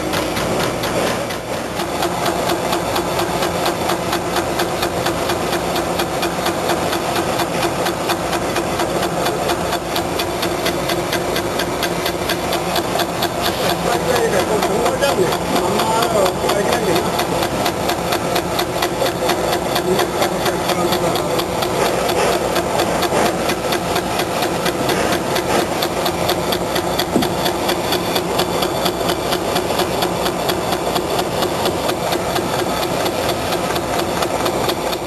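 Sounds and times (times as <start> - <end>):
lathe running under cut: 0.0 - 35.0
fast even ticking: 1.8 - 35.0.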